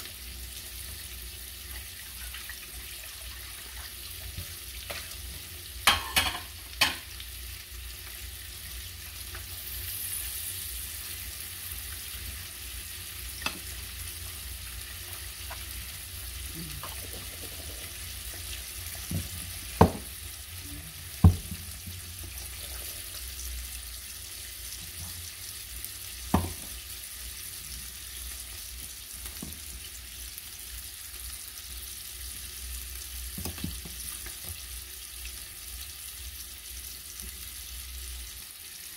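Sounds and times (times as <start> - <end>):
chicken sizzling in frying pan: 0.0 - 38.9.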